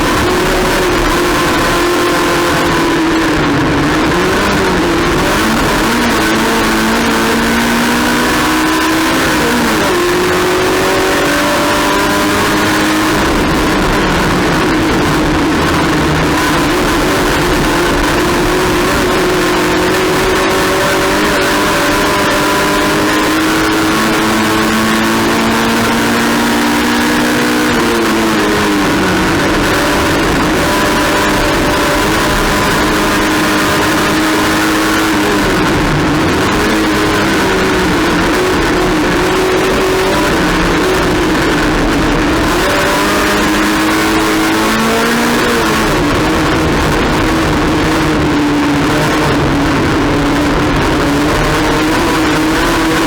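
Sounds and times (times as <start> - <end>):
constant rushing noise: 0.0 - 53.0
race car engine at high revs: 0.0 - 53.0
road and wind noise: 0.0 - 53.0.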